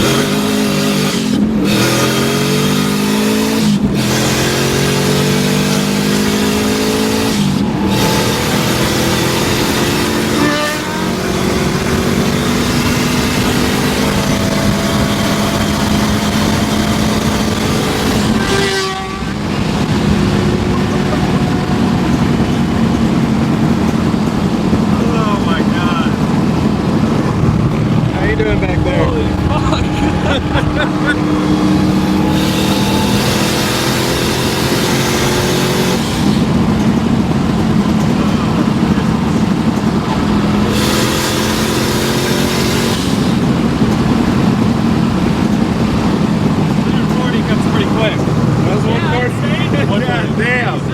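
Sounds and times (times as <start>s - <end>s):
rally car engine running: 0.0s - 50.9s
rumble of driving noise: 0.0s - 50.9s.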